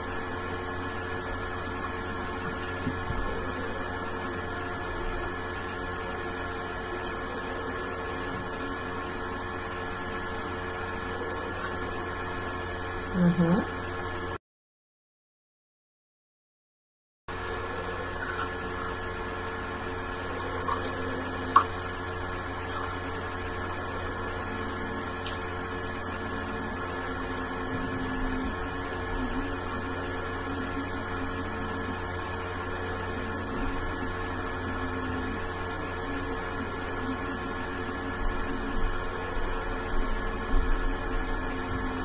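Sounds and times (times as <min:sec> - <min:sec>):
electrical hum: 0:00.0 - 0:14.4, 0:17.3 - 0:42.0.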